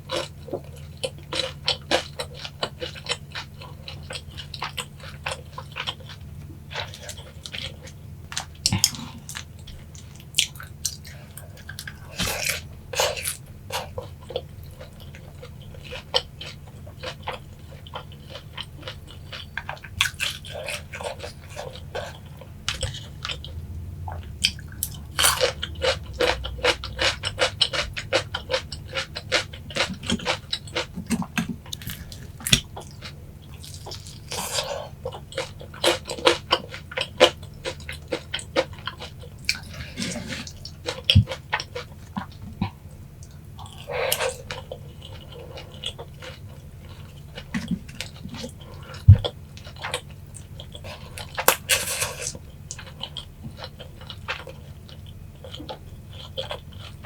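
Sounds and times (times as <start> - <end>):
chewing crunchy fried chicken: 0.0 - 57.0.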